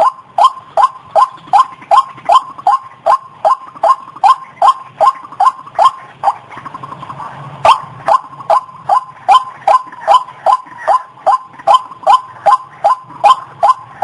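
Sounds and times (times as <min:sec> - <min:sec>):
waterhen calling: 0:00.0 - 0:14.0.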